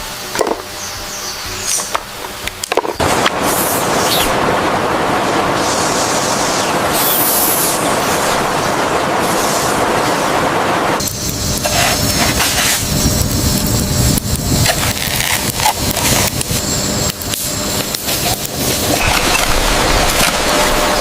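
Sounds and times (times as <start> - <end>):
dense steady noise: 0.0 - 21.0.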